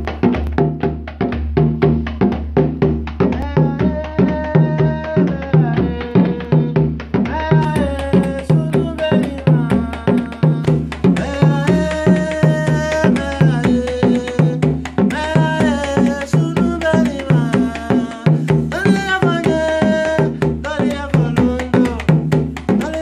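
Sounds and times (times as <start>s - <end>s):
hand drum played fast: 0.0s - 23.0s
stick-struck bass drums: 0.0s - 23.0s.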